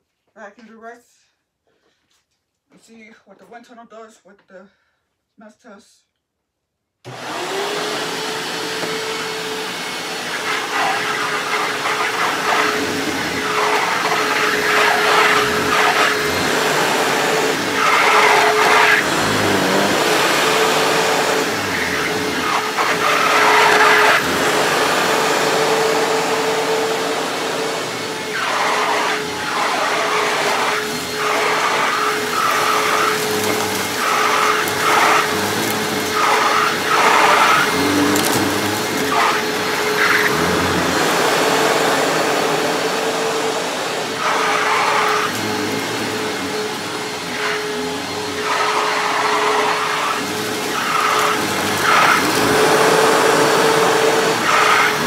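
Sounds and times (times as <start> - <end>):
vacuum cleaner running: 7.0 - 55.0
vacuum wheels squeaking: 7.1 - 55.0.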